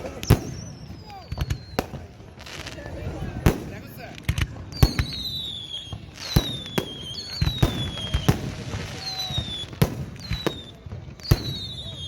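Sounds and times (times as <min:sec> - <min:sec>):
fireworks banging: 0:00.0 - 0:12.0
whistling firework shells: 0:00.1 - 0:02.2, 0:04.3 - 0:12.0.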